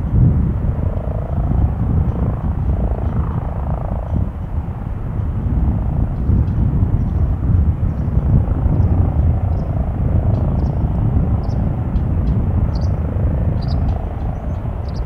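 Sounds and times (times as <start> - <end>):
helicopter rotor rumble: 0.0 - 15.0
turbine whine: 0.0 - 15.0.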